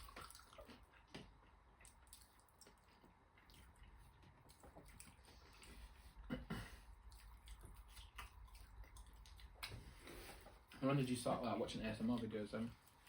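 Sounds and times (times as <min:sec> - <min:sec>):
wet chewing sounds: 0:00.0 - 0:11.0.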